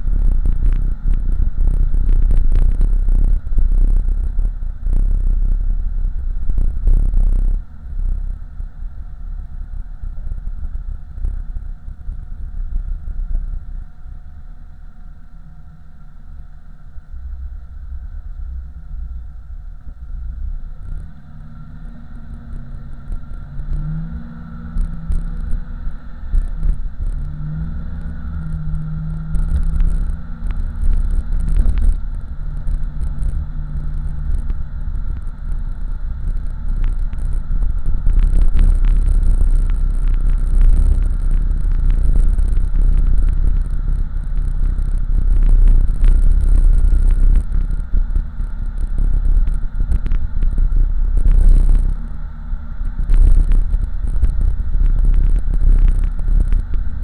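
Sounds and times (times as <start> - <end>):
car engine and exhaust drone: 0.0 - 57.0
road and tyre noise: 0.0 - 57.0.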